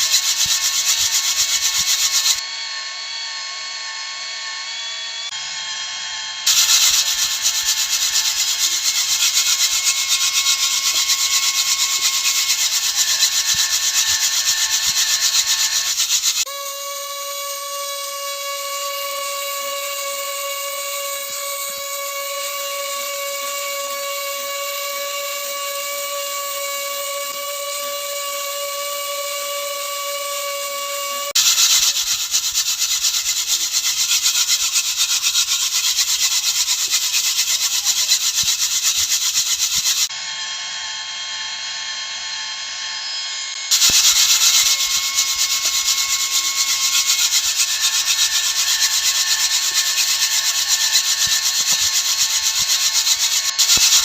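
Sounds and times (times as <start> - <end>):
rasping sanding-like rubbing: 0.0 - 2.4, 6.5 - 40.1, 43.7 - 54.0
small motor whining: 0.0 - 54.0.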